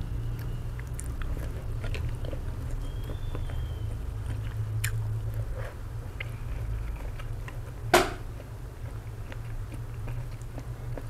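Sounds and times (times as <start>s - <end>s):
chewing and mouth sounds: 0.2s - 11.0s.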